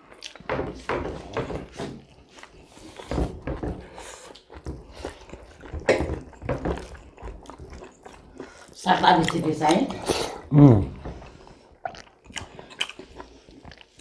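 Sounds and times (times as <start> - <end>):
chewing and wet mouth noises: 0.0 - 0.5, 1.2 - 14.0.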